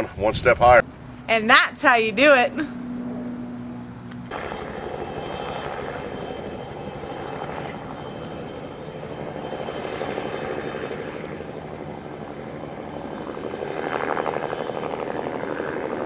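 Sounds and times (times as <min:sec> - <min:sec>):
aircraft engine drone: 0:00.0 - 0:16.0.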